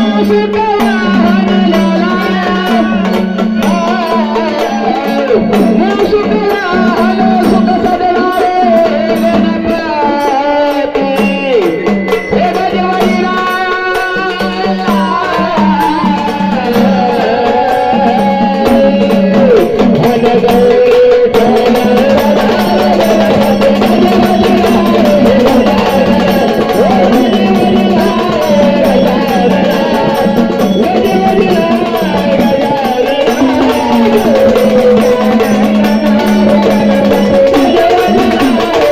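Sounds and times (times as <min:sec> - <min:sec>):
hand drum beat: 0:00.0 - 0:38.9.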